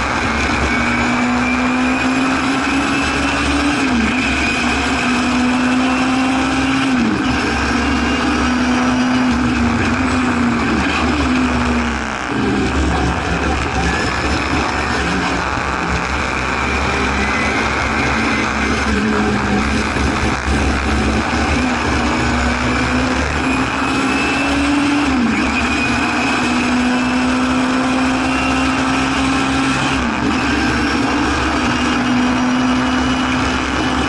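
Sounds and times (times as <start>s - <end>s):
racing car engine running hard: 0.0s - 34.0s.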